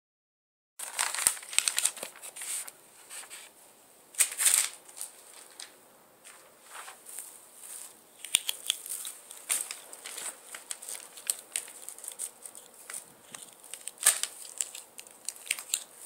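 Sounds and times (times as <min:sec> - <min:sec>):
wrapping paper crinkling: 0:00.8 - 0:03.6, 0:04.2 - 0:16.0.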